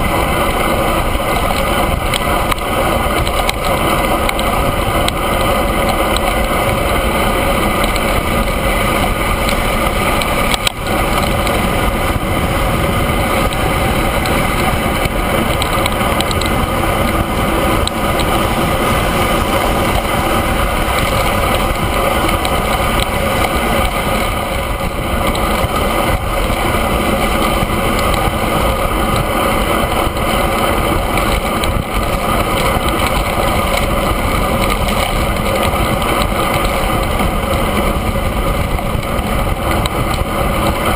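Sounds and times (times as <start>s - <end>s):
road noise: 0.0s - 40.9s
wind rush on microphone: 0.0s - 40.9s.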